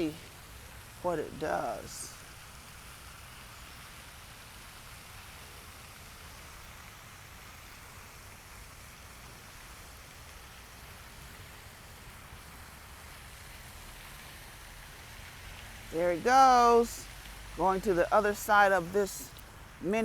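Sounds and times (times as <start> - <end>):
even hiss: 0.0 - 20.0.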